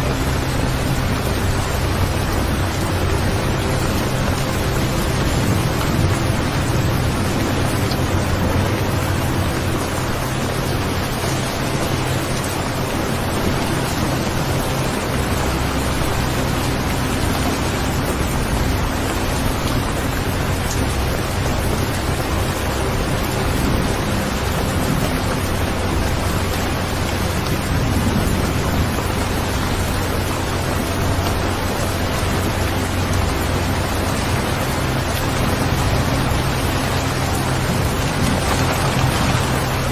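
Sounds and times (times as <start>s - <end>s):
low steady rumble: 0.0s - 39.9s
steady rain: 0.0s - 39.9s.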